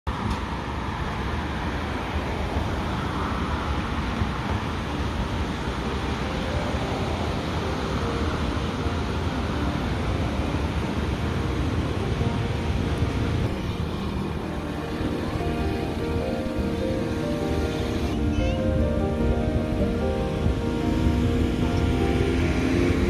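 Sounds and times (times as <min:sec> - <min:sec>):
cars passing: 0:00.1 - 0:23.0
wind on microphone: 0:00.1 - 0:23.0.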